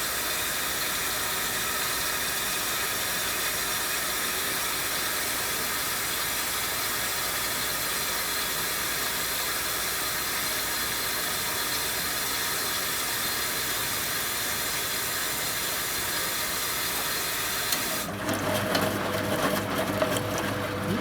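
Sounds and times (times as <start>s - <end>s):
washing machine motor humming: 0.0s - 21.0s
water rushing into washing machine: 0.0s - 21.0s.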